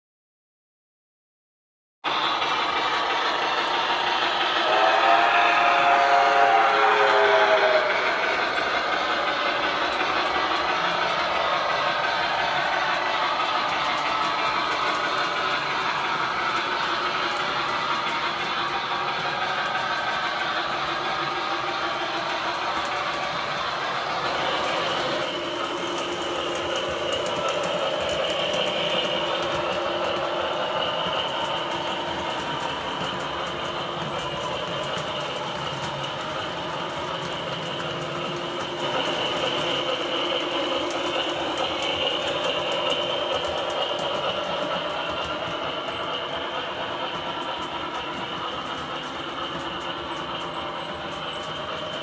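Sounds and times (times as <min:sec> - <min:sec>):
model train mechanical whine: 0:02.1 - 0:52.0
model train wheels rumbling on rail: 0:02.1 - 0:52.0.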